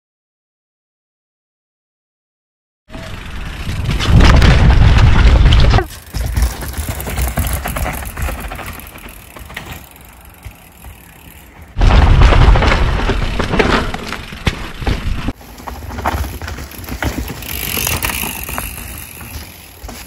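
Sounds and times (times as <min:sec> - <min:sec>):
bike tyre noise: 0:02.9 - 0:20.0
wind rumble: 0:03.0 - 0:19.8
knocks on dirt trail: 0:03.9 - 0:20.0.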